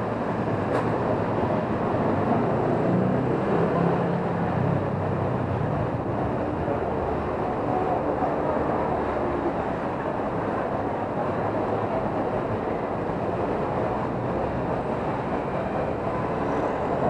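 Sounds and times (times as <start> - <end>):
steady rumbling background noise: 0.0 - 17.0.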